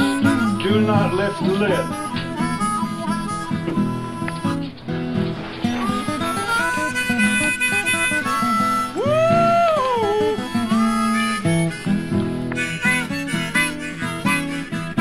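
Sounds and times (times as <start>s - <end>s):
acoustic guitar accompaniment: 0.0s - 15.0s
harmonica music: 0.0s - 15.0s.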